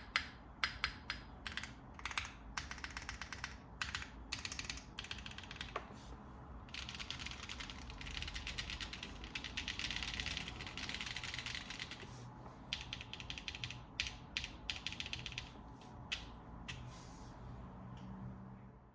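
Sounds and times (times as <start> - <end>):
mechanical keyboard typing: 0.0 - 5.8, 6.7 - 12.1, 12.7 - 16.8.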